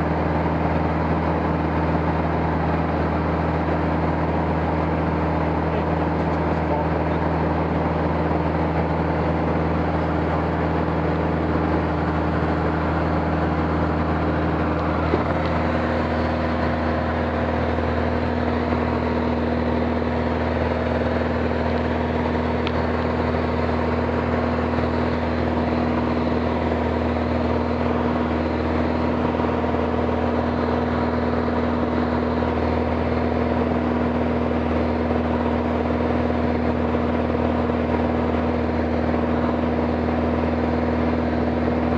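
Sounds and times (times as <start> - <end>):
aircraft engine drone: 0.0 - 41.9.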